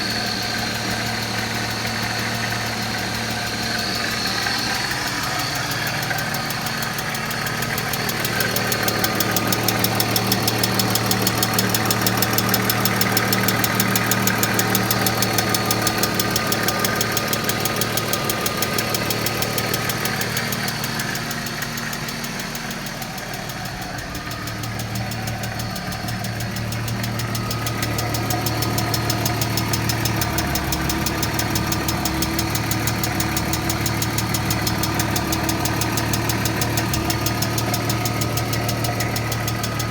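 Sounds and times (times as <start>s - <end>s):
car engine running: 0.0s - 39.9s
rapid lifter ticking: 0.0s - 39.9s.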